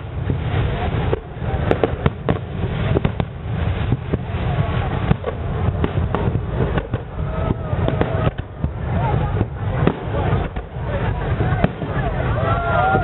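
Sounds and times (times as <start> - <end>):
distant fireworks bursting: 0.0 - 13.0
low rumble: 0.0 - 13.0.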